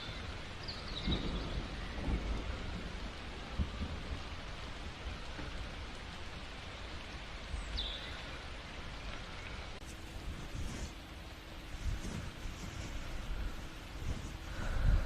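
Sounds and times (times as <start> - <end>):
soft low rumbles: 0.0 - 15.0
steady rain falling: 0.0 - 15.0.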